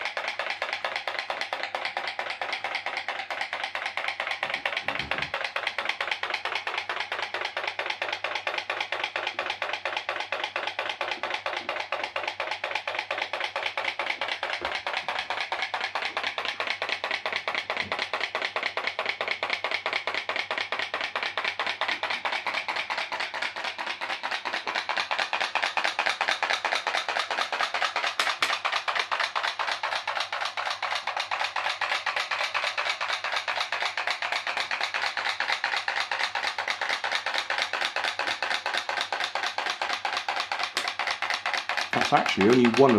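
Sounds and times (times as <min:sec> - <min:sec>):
pop-pop boat engine clicking: 0:00.0 - 0:42.9.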